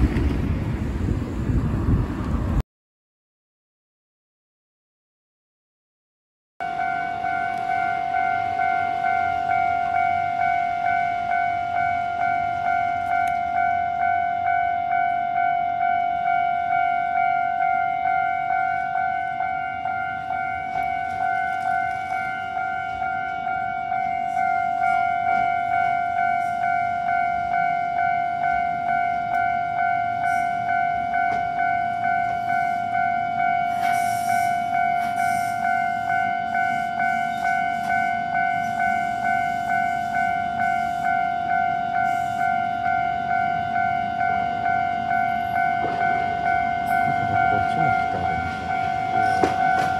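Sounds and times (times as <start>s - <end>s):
train rumbling: 0.0s - 2.6s, 6.6s - 49.9s
level crossing alarm ringing: 6.6s - 49.9s.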